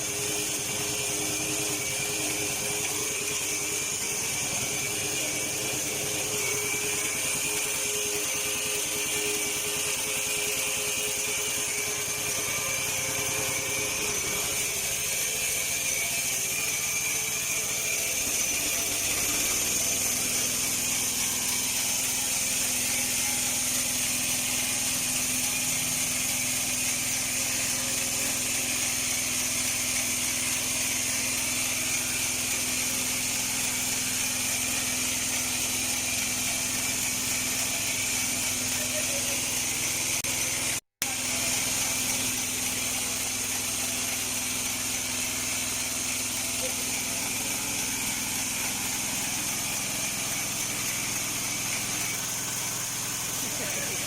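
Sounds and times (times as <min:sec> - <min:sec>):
bandsaw mill running: 0:00.0 - 0:54.0.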